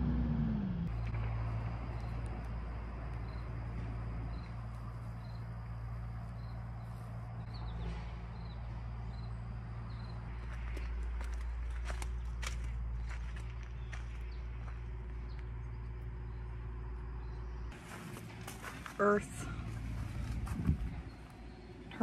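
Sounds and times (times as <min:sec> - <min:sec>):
steady low hum: 0:00.6 - 0:22.0
cricket chirping: 0:00.9 - 0:18.8, 0:19.4 - 0:22.0.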